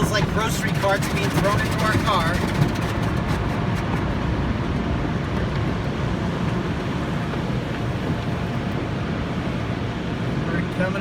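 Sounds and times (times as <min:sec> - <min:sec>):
car wash rumble and rush: 0:00.0 - 0:11.0.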